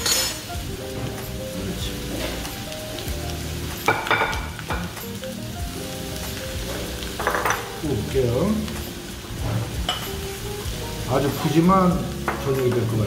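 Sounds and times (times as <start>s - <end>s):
background music melody: 0.0s - 13.0s
meat sizzling on grill pan: 0.0s - 13.0s.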